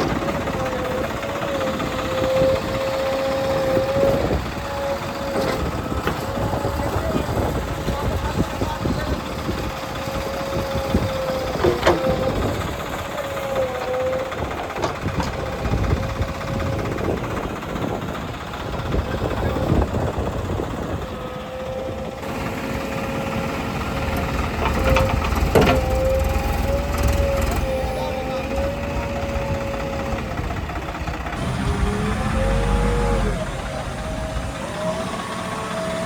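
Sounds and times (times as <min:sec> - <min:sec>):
diesel engine rumbling: 0:00.0 - 0:36.0.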